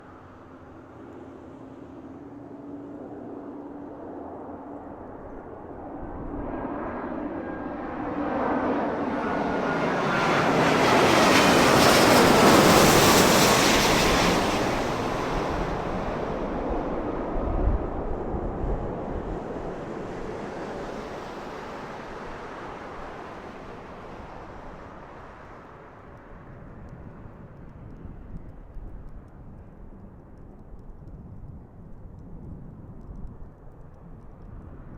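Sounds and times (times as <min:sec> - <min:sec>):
jet airliner passing overhead: 0:00.0 - 0:30.3.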